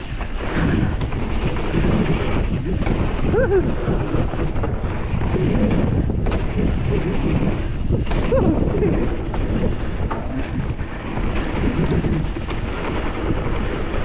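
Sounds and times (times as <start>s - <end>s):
tyres on dirt trail: 0.0s - 14.0s
wind buffeting microphone: 0.0s - 14.0s.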